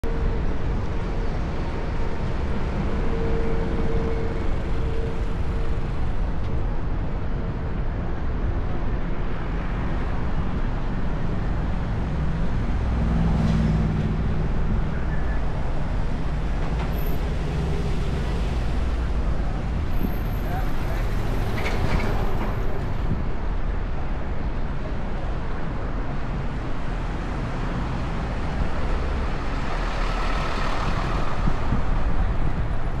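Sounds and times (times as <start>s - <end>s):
street traffic passing: 0.0s - 33.0s.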